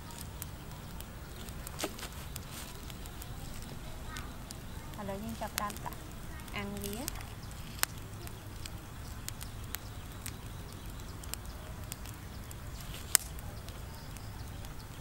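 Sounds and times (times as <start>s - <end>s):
sharp clicks and ticks: 0.0s - 15.0s.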